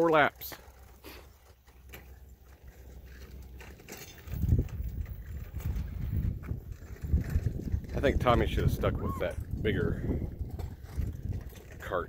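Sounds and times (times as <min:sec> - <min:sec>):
faint outdoor background: 0:00.0 - 0:12.0
low uneven rumble: 0:00.0 - 0:12.0.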